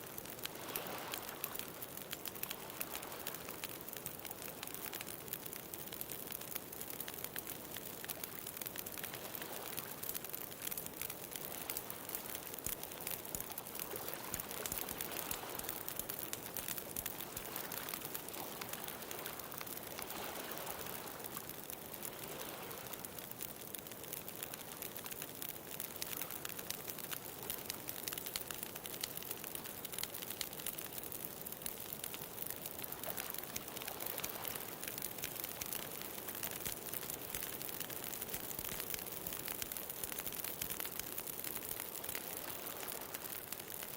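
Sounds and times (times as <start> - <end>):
bonfire crackling: 0.0 - 43.9.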